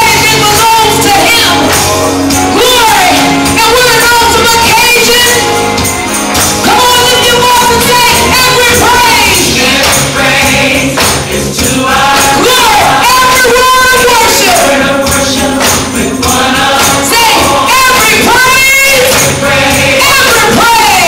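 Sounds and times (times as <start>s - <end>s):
gospel praise singing: 0.0s - 21.0s
lead voice with vibrato: 0.0s - 21.0s
tambourine beat: 0.0s - 21.0s.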